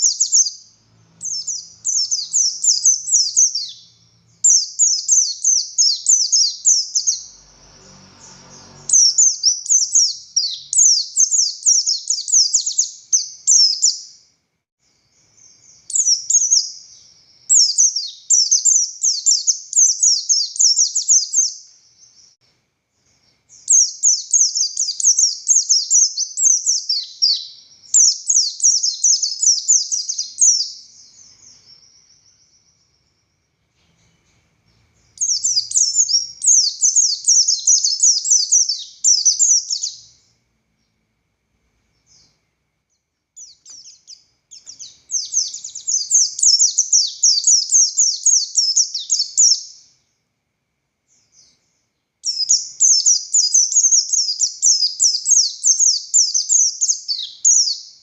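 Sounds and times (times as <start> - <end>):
bird twittering: 0.0 - 14.2, 15.1 - 22.4, 23.2 - 33.5, 34.7 - 40.3, 43.4 - 49.9, 52.2 - 58.0.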